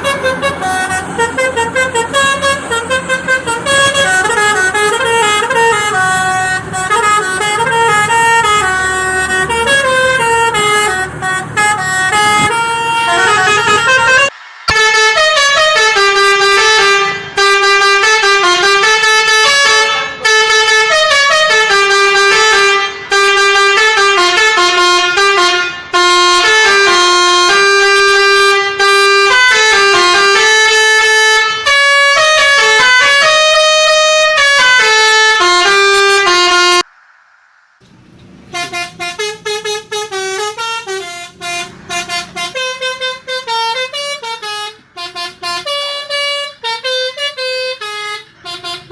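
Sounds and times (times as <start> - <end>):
multi-tone musical horn: 0.0 - 36.9, 38.5 - 48.9
engine rumbling: 0.0 - 48.9.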